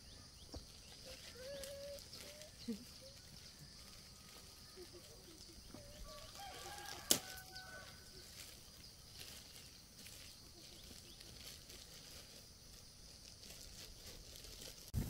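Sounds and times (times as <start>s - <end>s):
soft ticks or rustles: 0.6s - 14.9s.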